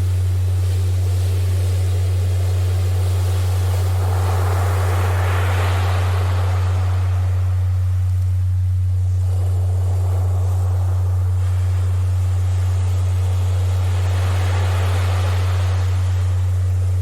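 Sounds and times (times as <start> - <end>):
ocean surf: 0.0 - 17.0
steady low tone: 0.0 - 17.0.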